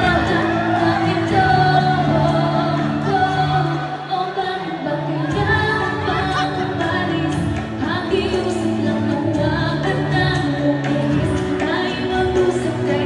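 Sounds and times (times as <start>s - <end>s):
loud backing music: 0.0s - 13.0s
woman singing into a microphone: 0.0s - 13.0s.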